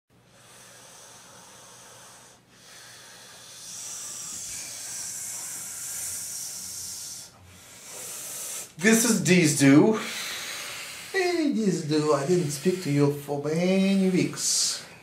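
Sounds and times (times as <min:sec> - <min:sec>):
person breathing: 0:00.2 - 0:09.2, 0:09.8 - 0:15.0.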